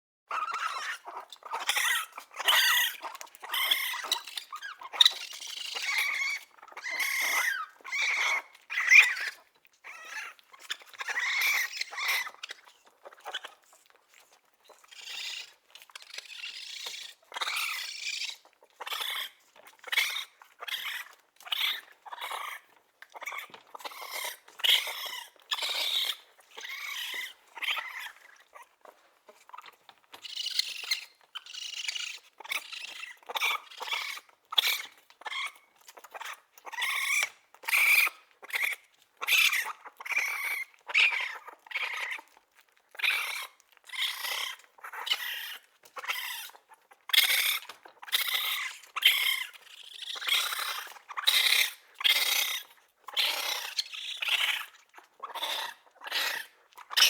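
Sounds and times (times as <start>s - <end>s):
baby raccoon chittering: 0.3s - 57.0s.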